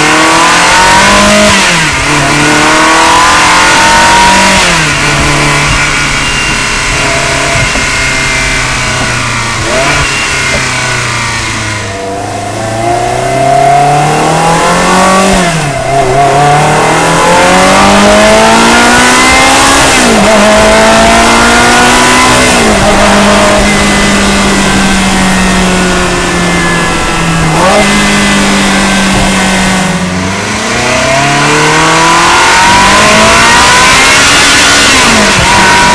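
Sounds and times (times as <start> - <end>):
sports car engine revving through gears: 0.0 - 35.9.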